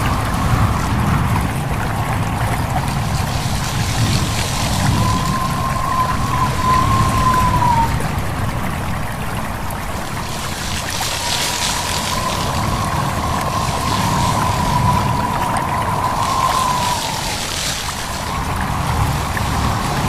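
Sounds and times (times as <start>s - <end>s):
babbling stream: 0.0s - 20.0s
wavering whistle of wind: 0.0s - 20.0s
wind blowing through leaves: 0.0s - 20.0s.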